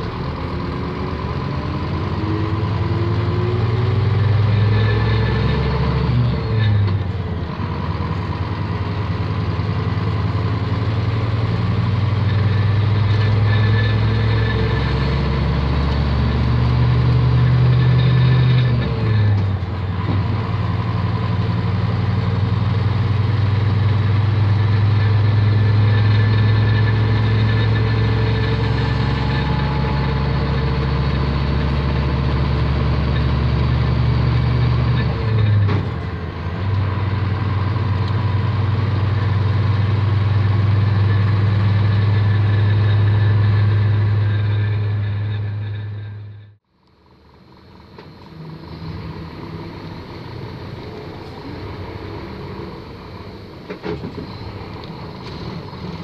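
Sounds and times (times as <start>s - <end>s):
diesel engine revving under load: 0.0s - 56.0s.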